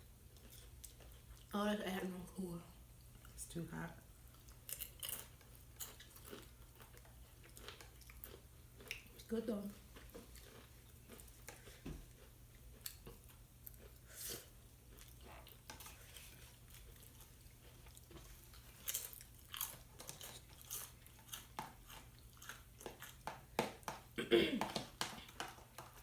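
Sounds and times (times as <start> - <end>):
faint low hum: 0.0 - 26.0
chewing with crisp crunches: 0.2 - 1.6, 4.1 - 24.2, 24.8 - 26.0.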